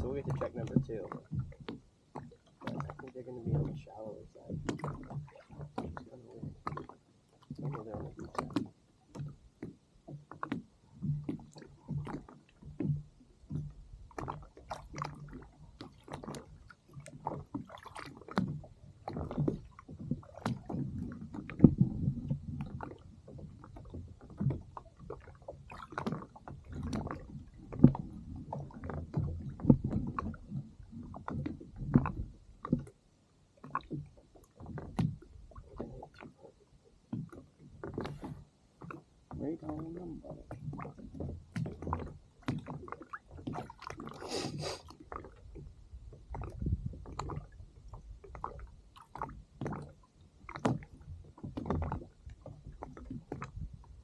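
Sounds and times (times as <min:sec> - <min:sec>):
water lapping against kayak hull: 0:00.0 - 0:54.0.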